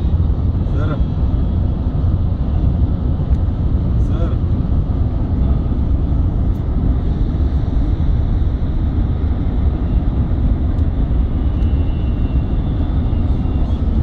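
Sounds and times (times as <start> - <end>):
tyre and wind noise in car cabin: 0.0 - 14.0.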